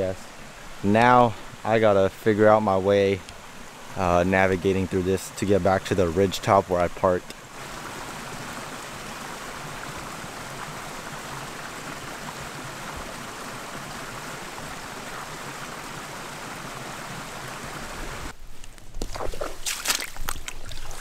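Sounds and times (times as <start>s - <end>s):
creek water splashing over rocks: 0.0s - 21.0s.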